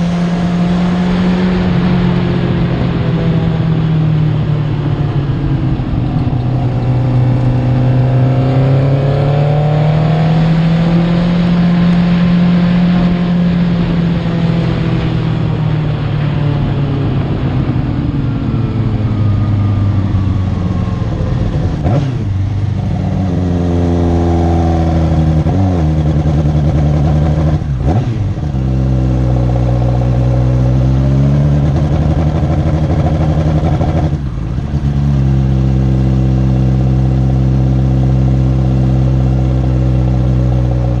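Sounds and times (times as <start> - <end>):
motorcycle engine revving hard: 0.0 - 3.8, 5.2 - 18.1, 21.2 - 41.0.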